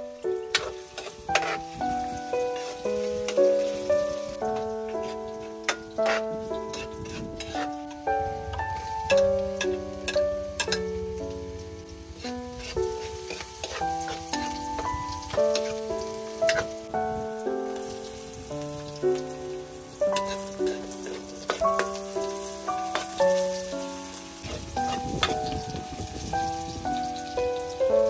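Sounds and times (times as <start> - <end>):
food sizzling in a frying pan: 0.0 - 28.0
soft plucked melody: 0.0 - 28.0.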